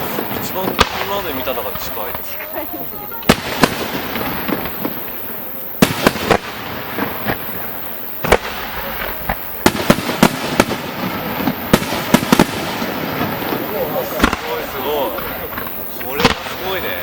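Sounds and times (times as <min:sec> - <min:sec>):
fireworks bangs: 0:00.0 - 0:17.0
fireworks crackle: 0:00.0 - 0:17.0.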